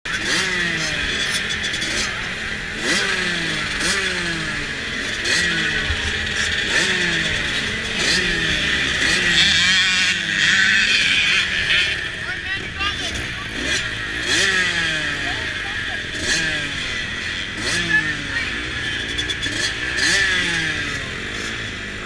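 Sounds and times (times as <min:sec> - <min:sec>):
motocross bike engines revving: 0:00.1 - 0:22.0.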